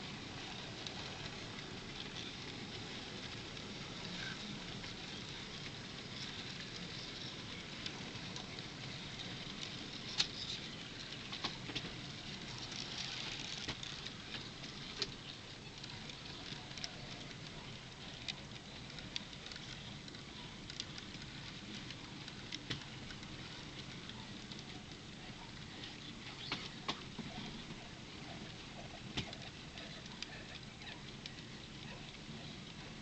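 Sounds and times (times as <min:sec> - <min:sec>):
model freight cars rolling: 0:00.0 - 0:33.0.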